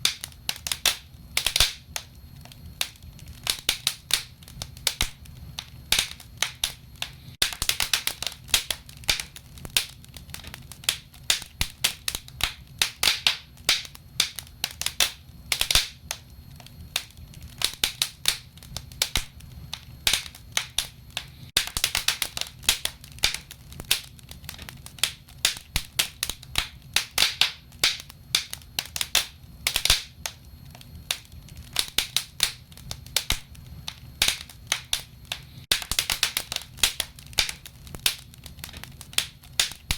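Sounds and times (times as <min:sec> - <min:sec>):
burning wood crackling: 0:00.0 - 0:39.9.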